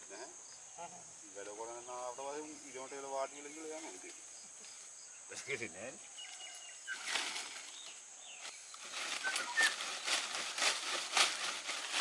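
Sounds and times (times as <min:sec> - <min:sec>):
faint high insect buzz: 0:00.0 - 0:12.0
stems and leaves rustling: 0:00.5 - 0:12.0.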